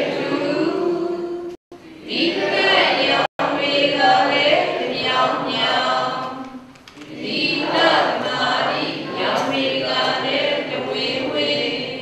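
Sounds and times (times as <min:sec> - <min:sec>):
congregation chanting in unison: 0:00.0 - 0:12.0.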